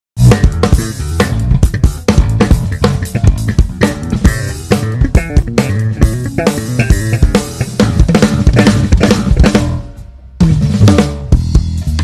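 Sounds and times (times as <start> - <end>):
drum kit playing: 0.2 - 12.0
electric bass fingerstyle groove: 0.2 - 12.0.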